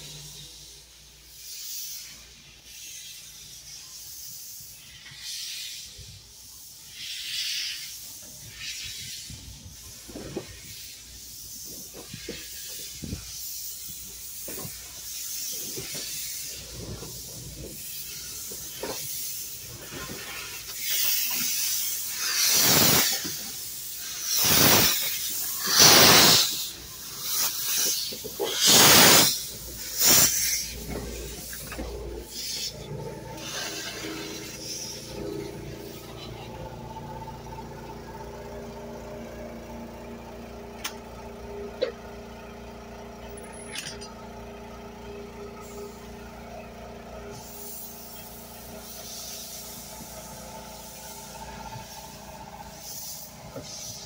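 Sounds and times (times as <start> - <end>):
steam hissing: 0.0 - 38.7, 47.2 - 54.0
steam locomotive bursts of steam: 0.0 - 54.0.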